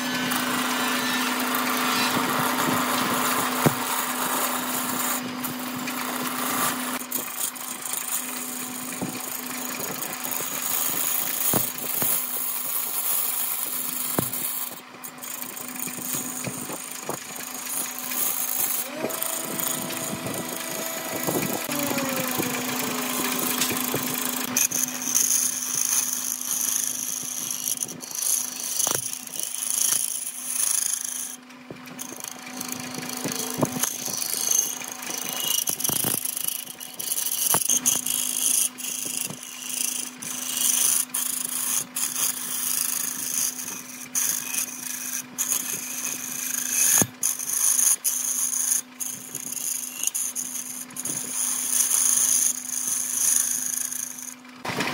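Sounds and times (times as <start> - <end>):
lathe humming: 0.0 - 54.5
gouge scraping spinning wood: 0.0 - 54.9.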